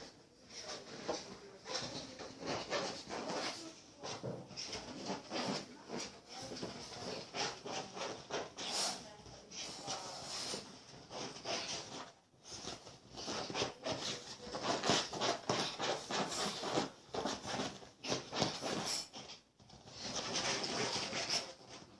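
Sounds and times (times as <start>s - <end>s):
dog scuffling sounds: 0.0s - 21.9s.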